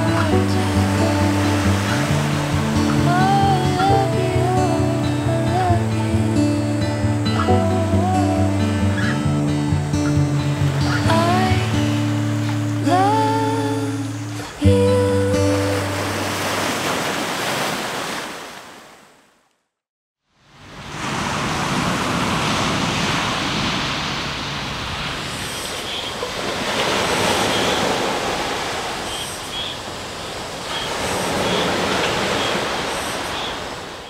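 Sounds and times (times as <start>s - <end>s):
sea waves washing on beach: 0.0s - 19.2s, 20.4s - 34.0s.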